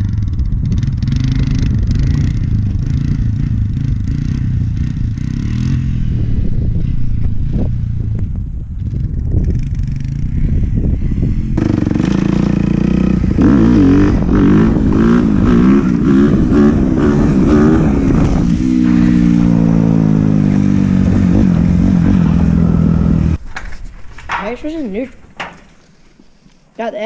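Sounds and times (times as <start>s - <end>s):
dirt bike engine revving: 0.0s - 8.1s, 8.8s - 23.4s.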